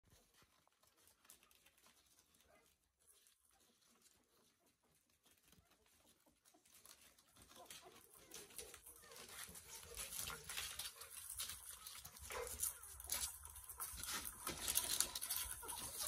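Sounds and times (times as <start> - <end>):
puppies suckling: 0.1 - 16.0.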